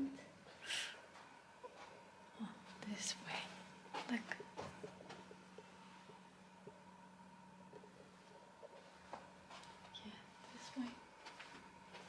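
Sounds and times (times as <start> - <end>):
faint room-tone hum: 0.0 - 12.0.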